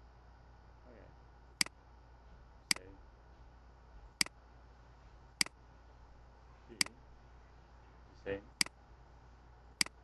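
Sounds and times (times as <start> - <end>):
faint background hum: 0.0 - 10.0.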